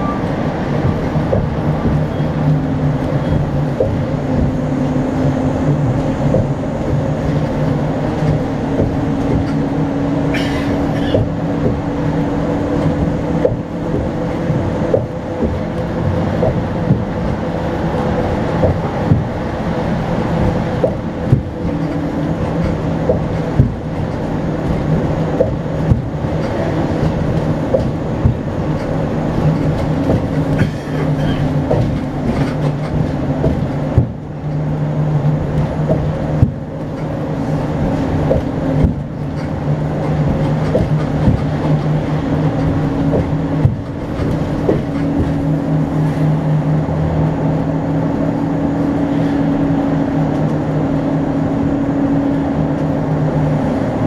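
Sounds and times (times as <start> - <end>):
bus engine and road drone: 0.0 - 54.0
sharp knocks and rattles: 0.7 - 19.5, 20.3 - 46.8.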